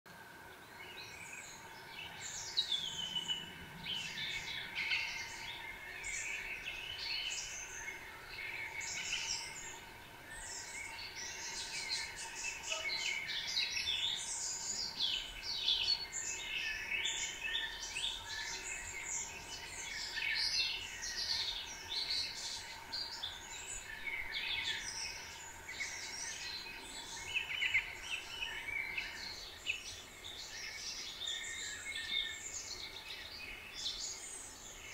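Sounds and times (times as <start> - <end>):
faint steady hum: 0.1 - 34.9
songbirds chirping and singing: 0.2 - 34.9.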